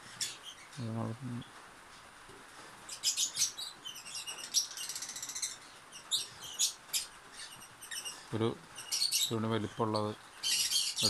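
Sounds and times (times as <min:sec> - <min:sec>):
lovebirds chirping: 0:00.0 - 0:01.5, 0:02.9 - 0:11.0.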